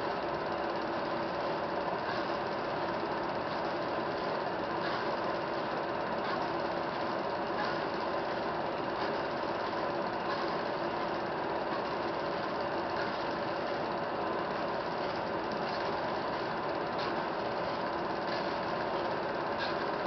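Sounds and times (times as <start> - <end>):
film projector whirring: 0.0 - 20.0.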